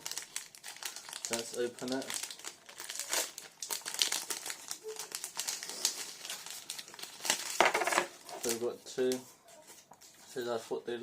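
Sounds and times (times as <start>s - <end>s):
plastic wrapper crinkling and tearing: 0.0s - 10.5s.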